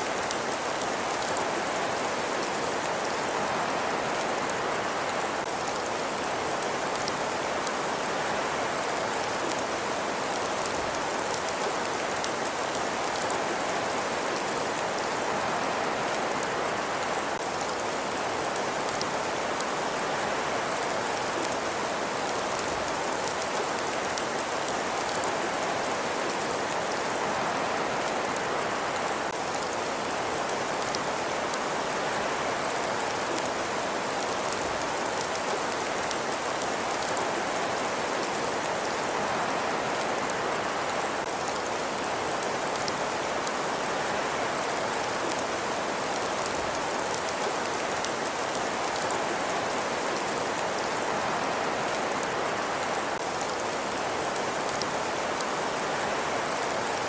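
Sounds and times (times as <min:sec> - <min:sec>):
steady hiss like rain: 0:00.0 - 0:57.0.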